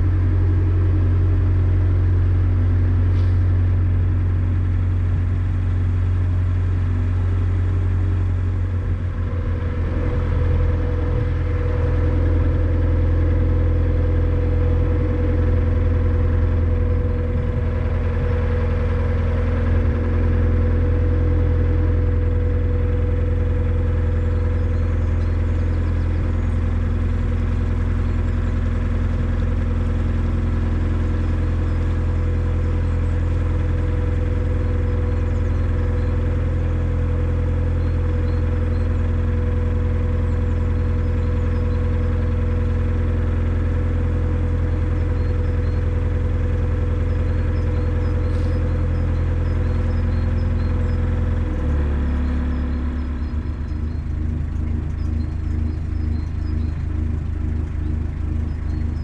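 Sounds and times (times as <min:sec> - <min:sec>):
boat diesel engine droning: 0:00.0 - 0:59.0
steady hum: 0:00.0 - 0:59.0.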